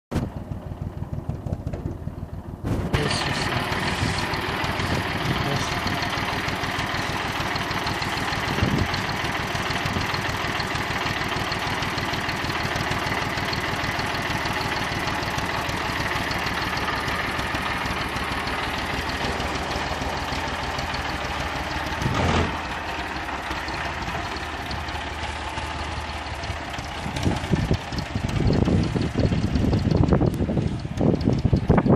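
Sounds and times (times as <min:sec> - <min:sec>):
tractor diesel engine idling: 0:00.1 - 0:31.9.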